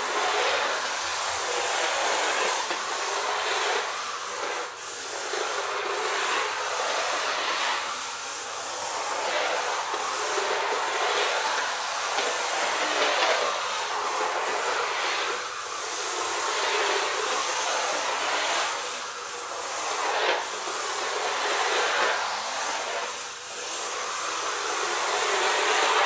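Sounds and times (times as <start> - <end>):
tyres sliding on laminate floor: 0.0 - 26.0.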